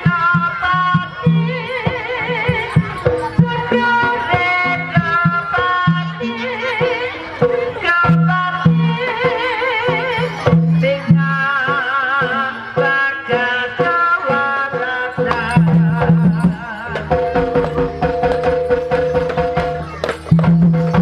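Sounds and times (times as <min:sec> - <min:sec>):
drum strokes: 0:00.0 - 0:21.0
wavering melody with vibrato: 0:00.2 - 0:21.0.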